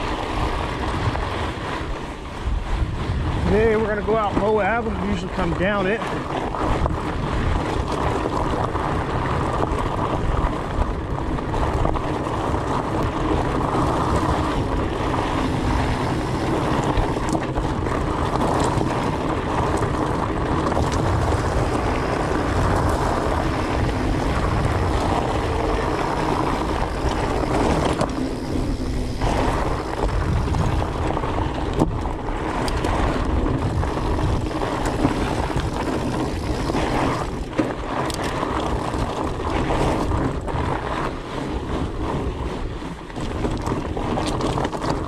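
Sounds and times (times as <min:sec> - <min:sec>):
bike tyres rolling over gravel: 0:00.0 - 0:45.0
wind buffeting microphone: 0:00.0 - 0:45.0.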